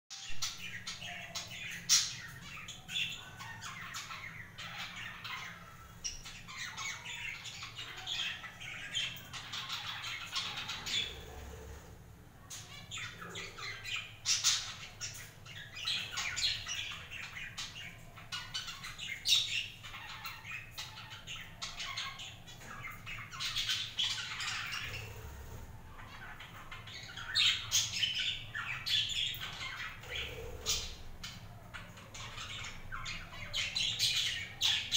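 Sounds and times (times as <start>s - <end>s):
budgerigars chattering: 0.4s - 11.9s, 12.6s - 34.9s.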